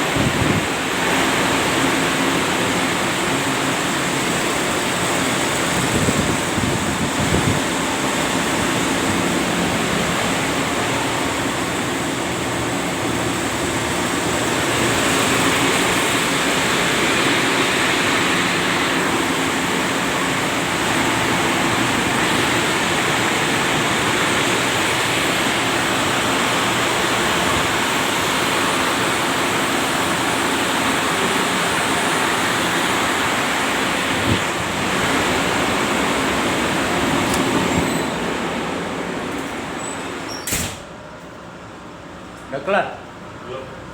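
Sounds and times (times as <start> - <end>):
diesel engine room din: 0.0 - 43.9.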